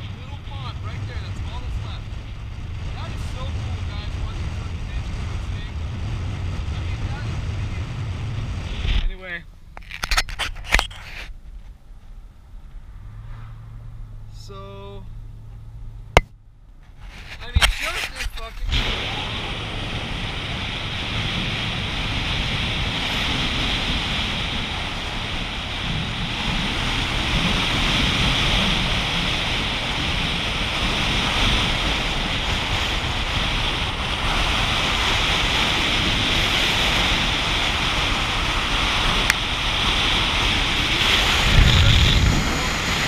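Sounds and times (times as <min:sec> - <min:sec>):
wind rushing over microphone: 0:00.0 - 0:11.3, 0:17.0 - 0:43.0
tire and road rumble: 0:00.0 - 0:43.0.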